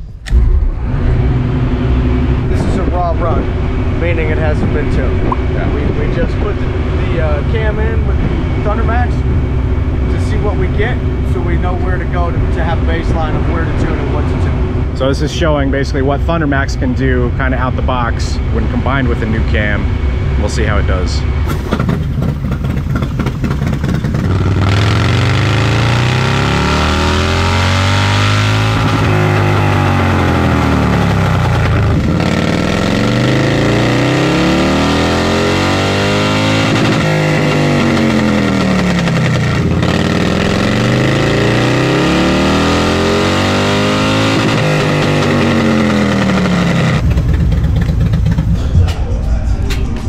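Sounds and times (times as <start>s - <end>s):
motorcycle engine on a dyno: 0.0s - 49.2s.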